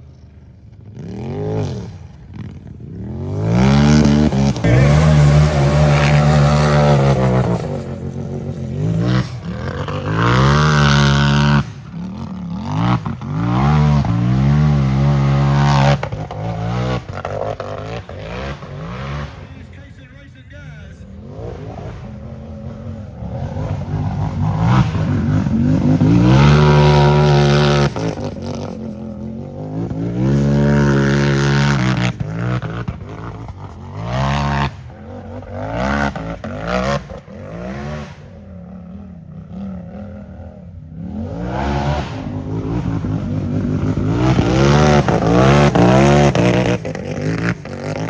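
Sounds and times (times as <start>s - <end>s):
engine revving hard: 3.1s - 38.7s, 39.6s - 48.0s.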